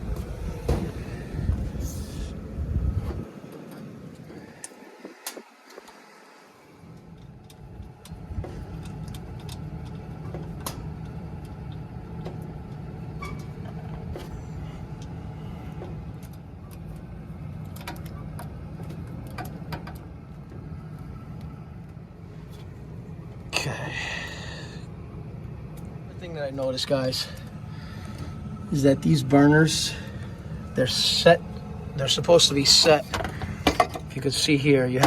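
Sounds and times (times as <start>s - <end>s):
heating unit rumbling: 0.0s - 35.0s.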